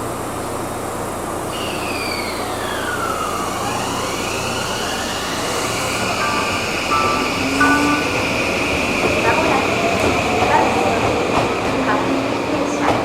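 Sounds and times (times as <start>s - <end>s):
train motor whine: 0.0s - 13.0s
train rumbling: 0.0s - 13.0s.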